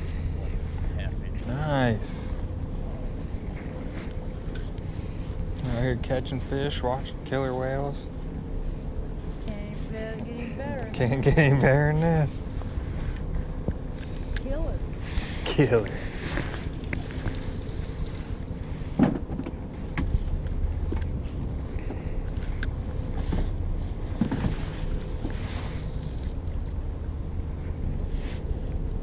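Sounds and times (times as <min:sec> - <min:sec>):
boat engine rumbling: 0:00.0 - 0:29.0.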